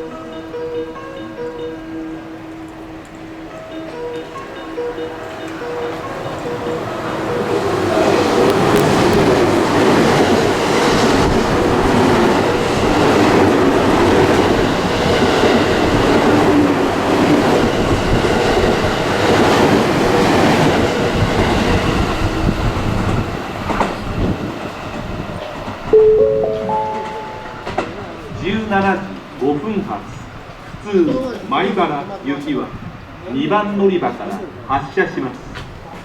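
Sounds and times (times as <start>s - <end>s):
electric train passing: 0.0s - 30.6s.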